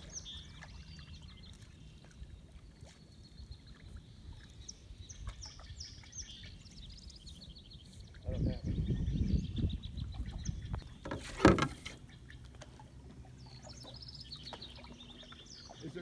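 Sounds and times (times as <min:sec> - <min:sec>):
birds singing: 0:00.0 - 0:16.0.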